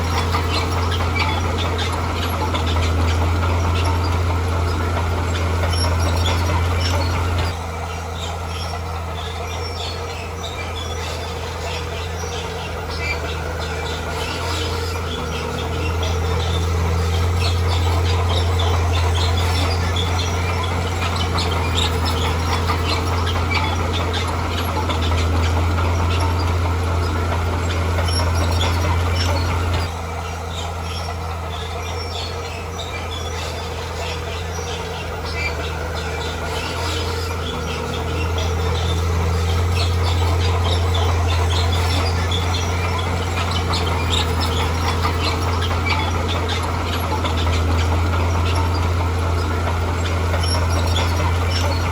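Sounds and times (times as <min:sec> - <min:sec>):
heavy machine engine drone: 0:00.0 - 0:51.9
high squeaks and clicks: 0:00.0 - 0:51.9.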